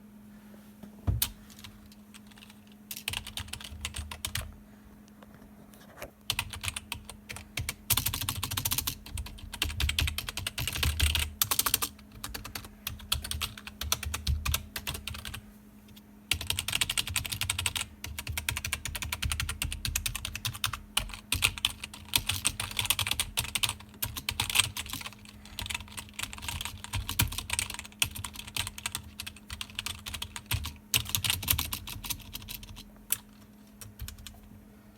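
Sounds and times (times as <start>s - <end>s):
steady low hum: 0.0s - 34.9s
keyboard typing: 1.2s - 4.5s, 6.3s - 15.4s, 16.3s - 34.5s.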